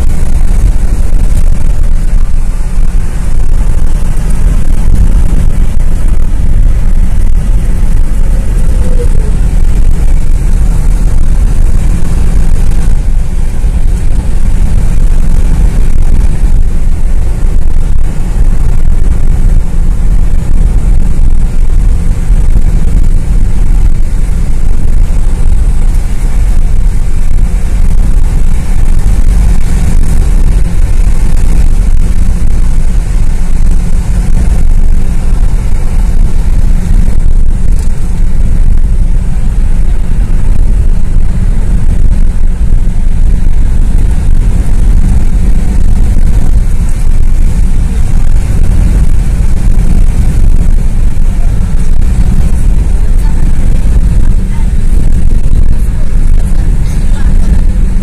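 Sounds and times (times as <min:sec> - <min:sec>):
car cabin road and engine rumble: 0:00.0 - 0:58.0.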